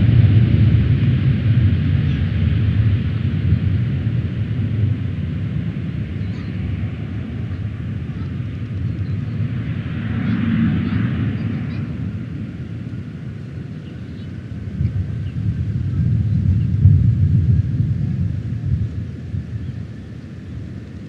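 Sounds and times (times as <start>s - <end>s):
jet airliner engines rumbling: 0.0s - 21.0s.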